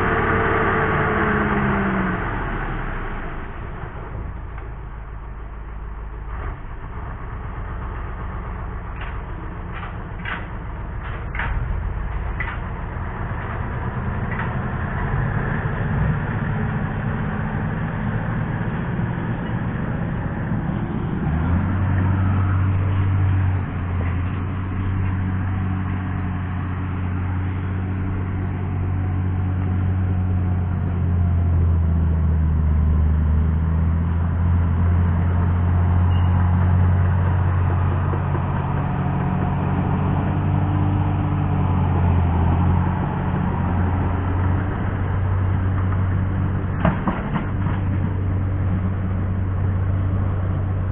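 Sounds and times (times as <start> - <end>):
bulldozer diesel engine: 0.0 - 50.9
low hum: 0.0 - 50.9.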